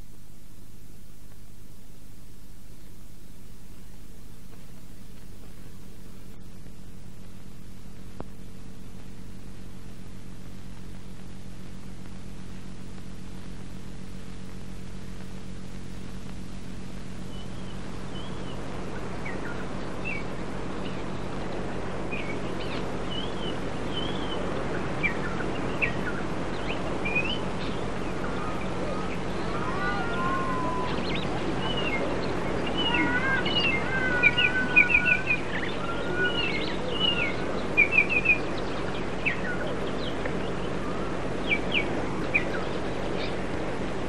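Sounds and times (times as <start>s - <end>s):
low hum with hiss: 0.0s - 44.0s.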